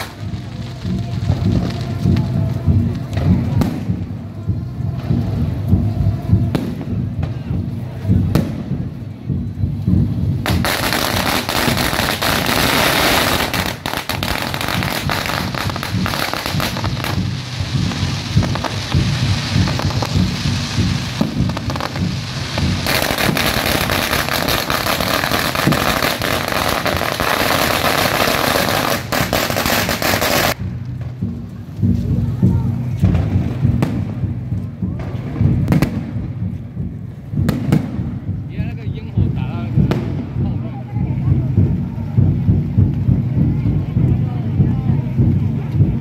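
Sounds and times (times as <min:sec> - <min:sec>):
fireworks crackling: 0:00.0 - 0:46.0.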